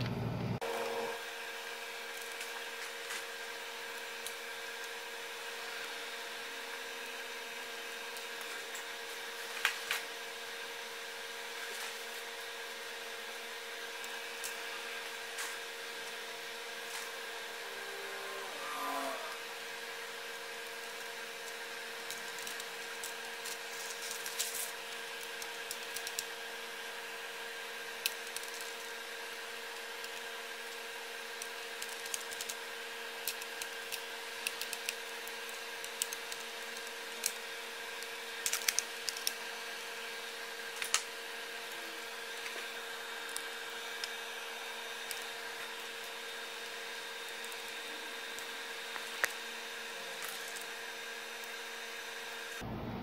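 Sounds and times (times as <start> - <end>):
steady hum with held tones: 0.0 - 53.0.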